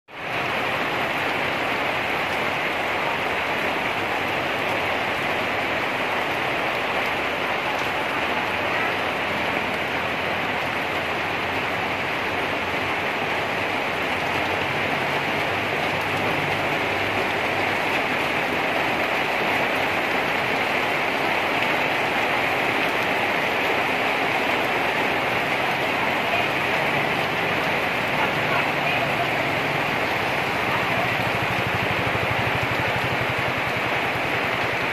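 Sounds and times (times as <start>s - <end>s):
heavy rain on pavement and roof: 0.0s - 34.9s.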